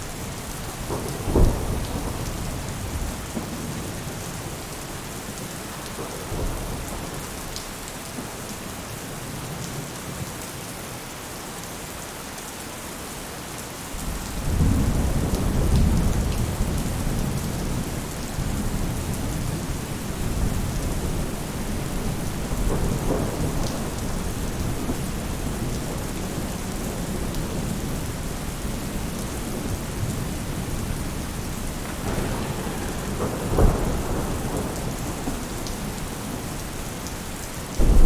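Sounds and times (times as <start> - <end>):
rain falling on a roof: 0.0 - 38.0
thunder rumbling: 0.2 - 7.4, 14.0 - 38.0.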